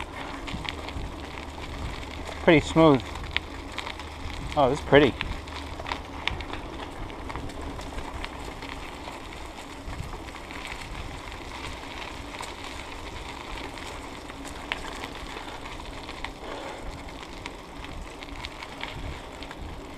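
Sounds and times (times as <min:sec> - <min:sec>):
bicycle tyres rolling on leaves: 0:00.0 - 0:19.9
bike clicks and rattles: 0:00.0 - 0:19.9.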